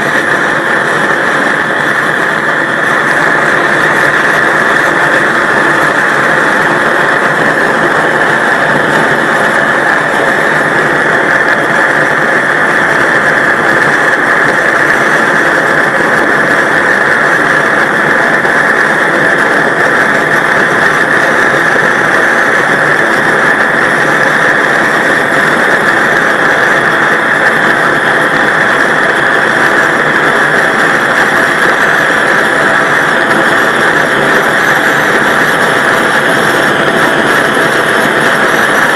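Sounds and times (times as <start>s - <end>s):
gas torch flame roaring: 0.0s - 38.9s.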